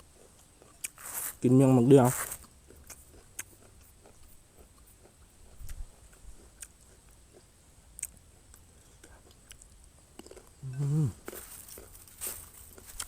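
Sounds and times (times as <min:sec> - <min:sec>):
person chewing: 0:00.0 - 0:01.4, 0:02.2 - 0:13.0.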